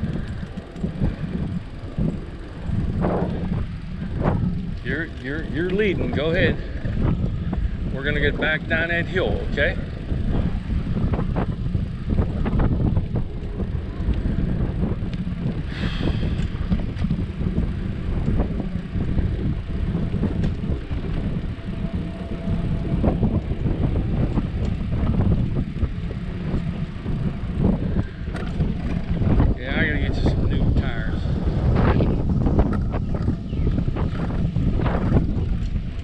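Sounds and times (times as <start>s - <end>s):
bicycle tyres on concrete: 0.0s - 36.0s
wind buffeting microphone: 0.0s - 36.0s.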